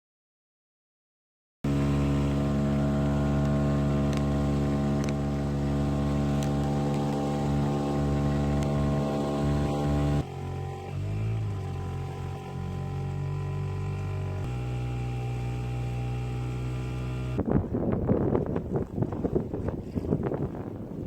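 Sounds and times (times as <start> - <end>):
outboard motor running: 1.7 - 20.7.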